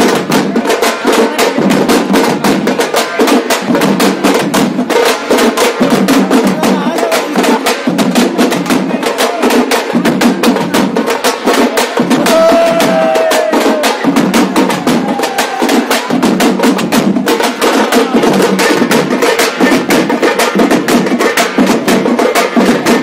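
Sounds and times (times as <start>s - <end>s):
frame drums beaten with sticks: 0.0s - 23.0s.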